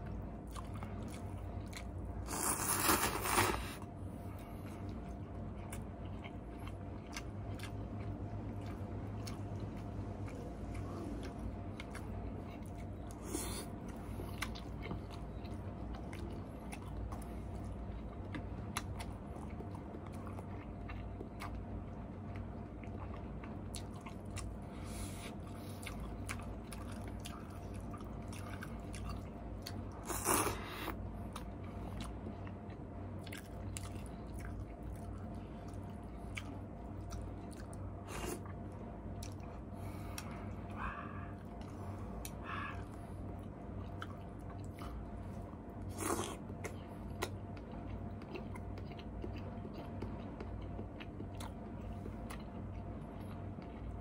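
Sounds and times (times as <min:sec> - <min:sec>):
person chewing noodles: 0:00.0 - 0:54.0
steady low hum: 0:00.0 - 0:54.0.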